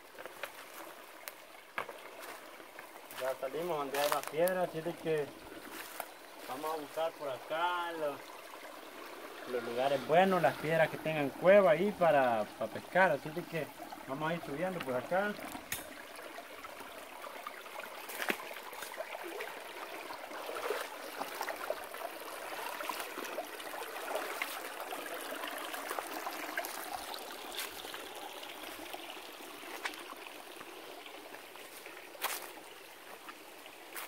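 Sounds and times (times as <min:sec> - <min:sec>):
stream trickling over stones: 0:00.0 - 0:34.0.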